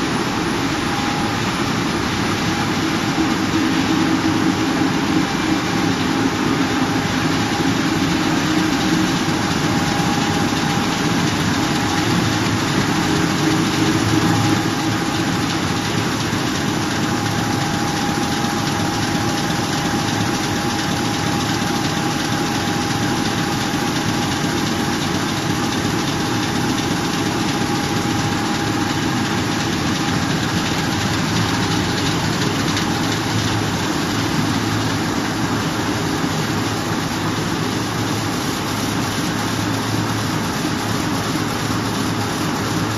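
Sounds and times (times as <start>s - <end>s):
faint steady whine: 0.0s - 42.9s
printing presses running: 0.0s - 42.9s.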